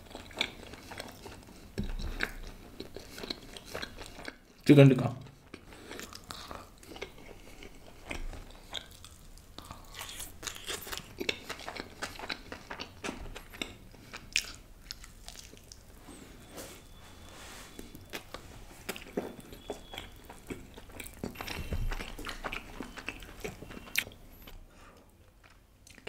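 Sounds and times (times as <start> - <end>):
person chewing and biting food: 0.0 - 4.4, 5.5 - 17.0, 17.7 - 24.6.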